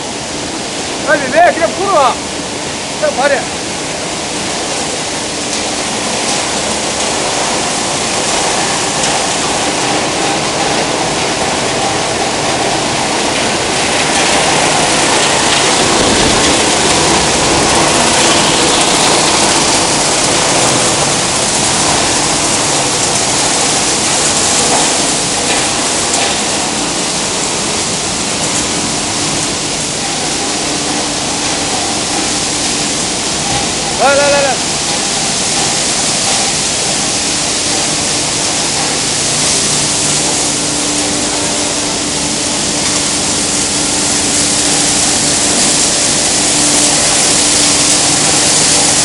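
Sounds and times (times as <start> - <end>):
churning machinery: 0.0 - 49.0
rushing water: 0.0 - 49.0.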